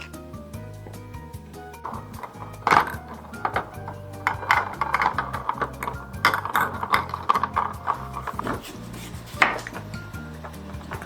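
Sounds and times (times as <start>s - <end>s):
background music: 0.0s - 11.0s
dishes clinking and knocking: 0.8s - 11.0s.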